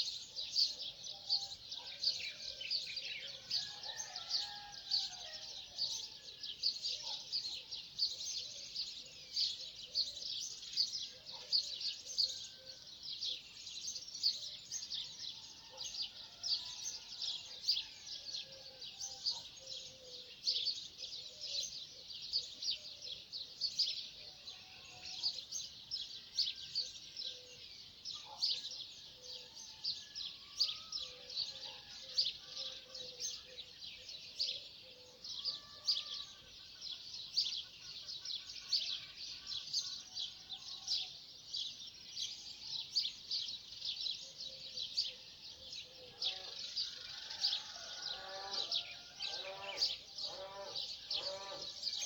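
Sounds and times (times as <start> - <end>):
birds chirping and twittering: 0.0 - 52.0.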